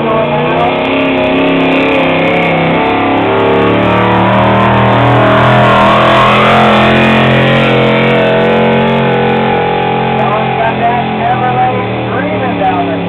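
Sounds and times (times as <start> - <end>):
truck engine running flat out: 0.0 - 13.0.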